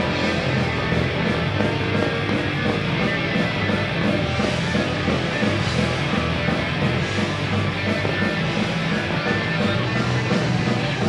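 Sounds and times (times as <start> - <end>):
punk rock band playing live: 0.0 - 11.0.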